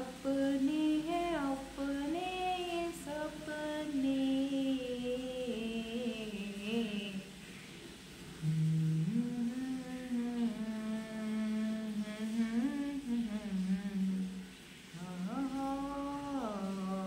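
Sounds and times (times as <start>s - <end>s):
woman humming a slow melody: 0.0s - 7.2s, 8.4s - 14.4s, 15.0s - 17.0s.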